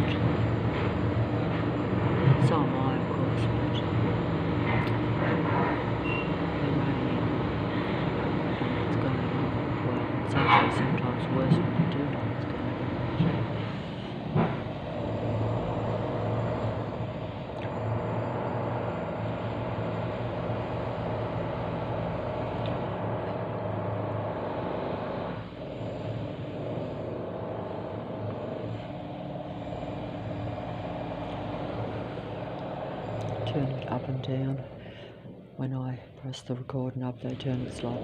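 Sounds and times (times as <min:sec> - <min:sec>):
heavy engine droning: 0:00.0 - 0:38.0.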